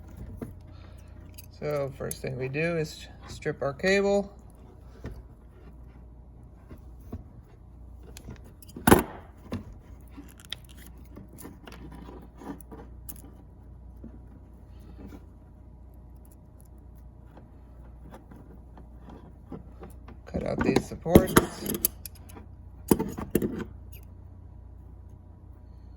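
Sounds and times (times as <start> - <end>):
cable being handled and stripped: 0.0 - 2.6, 4.4 - 24.1.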